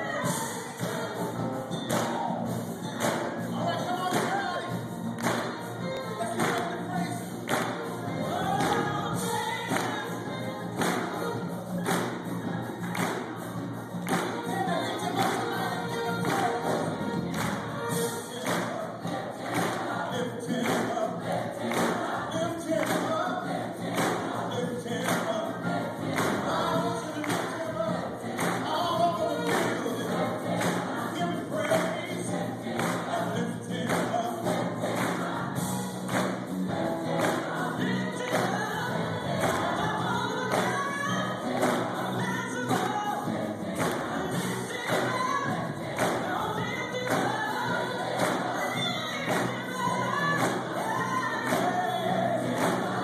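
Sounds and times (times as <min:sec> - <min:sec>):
gospel choir singing: 0:00.0 - 0:53.0
steady thumping beat: 0:00.1 - 0:53.0.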